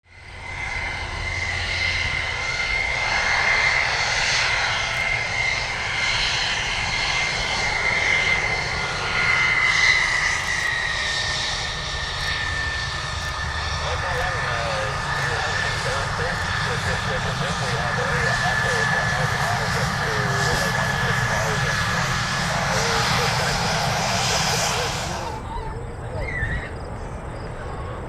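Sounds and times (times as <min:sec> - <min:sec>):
jet engine roar with high whine: 0:00.0 - 0:28.0.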